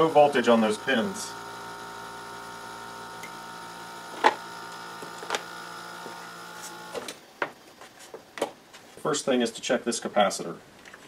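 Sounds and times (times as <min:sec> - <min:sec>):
compressor humming: 0:00.0 - 0:09.0.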